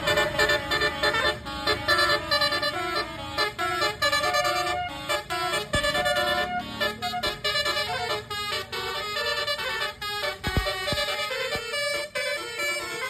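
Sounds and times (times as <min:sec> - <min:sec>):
multi-tone horn melody: 0:00.0 - 0:13.0.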